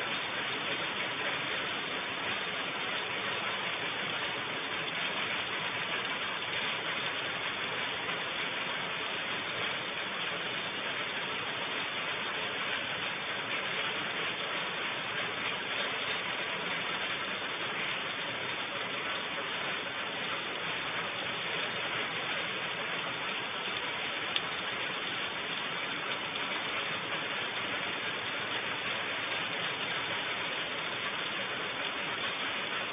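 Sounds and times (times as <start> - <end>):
rain hissing: 0.0 - 32.9.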